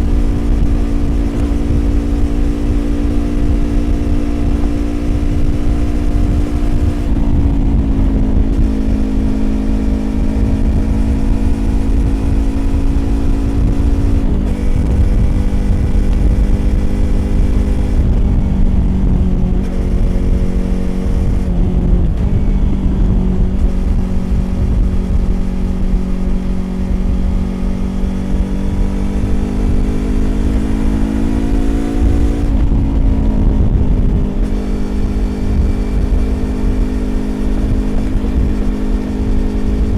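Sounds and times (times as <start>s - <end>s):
low wind rush: 0.0s - 39.9s
motorcycle engine at steady revs: 0.0s - 39.9s.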